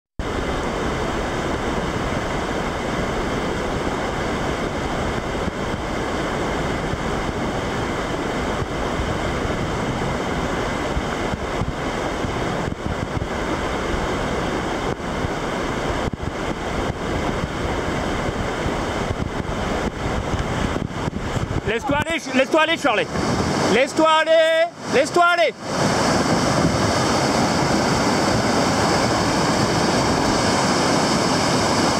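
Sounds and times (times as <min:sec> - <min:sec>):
water rushing over rocks: 0:00.2 - 0:31.9.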